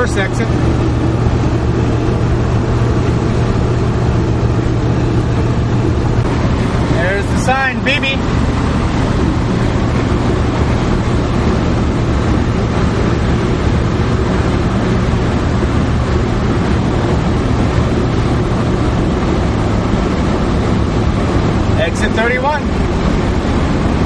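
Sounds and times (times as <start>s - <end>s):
car engine hum: 0.0s - 24.0s
car road noise: 0.0s - 24.0s.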